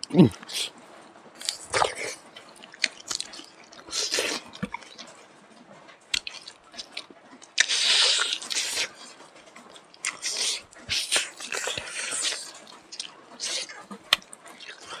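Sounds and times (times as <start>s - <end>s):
wet chewing and lip smacking: 1.4s - 5.2s, 6.1s - 15.0s.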